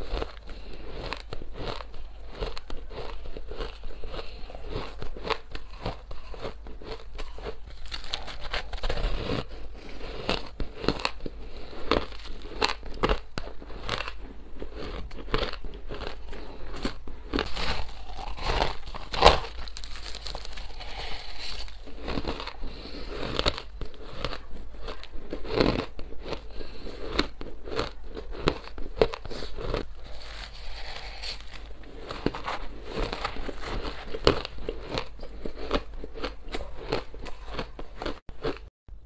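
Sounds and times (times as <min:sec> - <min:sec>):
crunching and chewing ice: 0:00.0 - 0:39.0.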